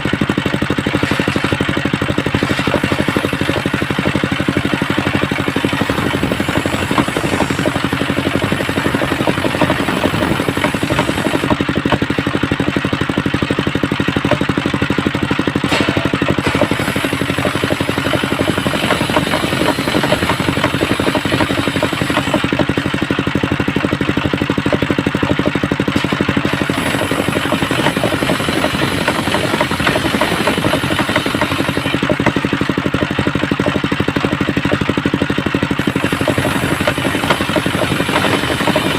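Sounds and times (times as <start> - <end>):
circular saw bench engine droning: 0.0 - 38.9
saw clatter: 0.0 - 38.9.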